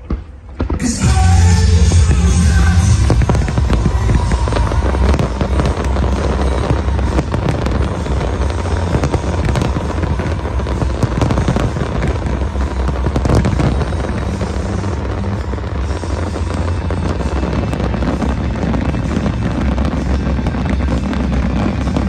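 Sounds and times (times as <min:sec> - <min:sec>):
fireworks crackling pops: 0:00.0 - 0:22.0
low rumble of booms: 0:01.0 - 0:22.0.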